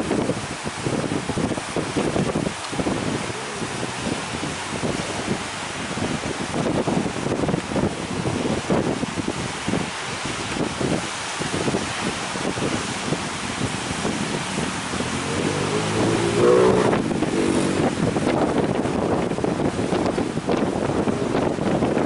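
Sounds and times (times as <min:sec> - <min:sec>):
rough sea surf: 0:00.0 - 0:22.0
wind buffeting microphone: 0:00.0 - 0:22.0.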